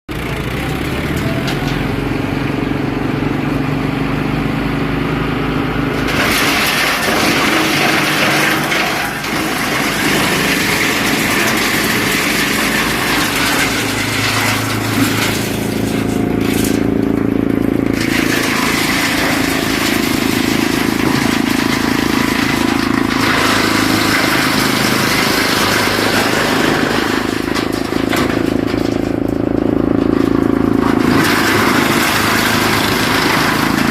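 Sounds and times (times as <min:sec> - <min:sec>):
wood chipper engine drone: 0:00.1 - 0:33.9
chipper grinding material: 0:05.3 - 0:33.9.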